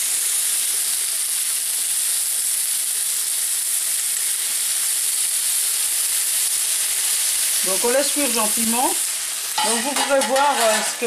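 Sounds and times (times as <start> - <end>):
fish sizzling on a grill pan: 0.0 - 11.0.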